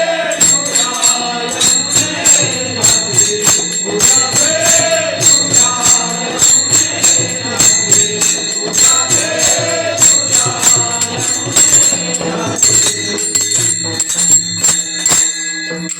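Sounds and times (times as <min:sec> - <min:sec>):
person singing: 0:00.0 - 0:13.8
small hand cymbals: 0:00.3 - 0:15.9.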